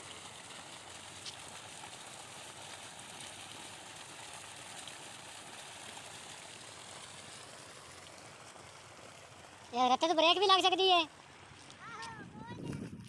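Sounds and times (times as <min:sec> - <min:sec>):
rushing water-like noise: 0:00.0 - 0:12.0.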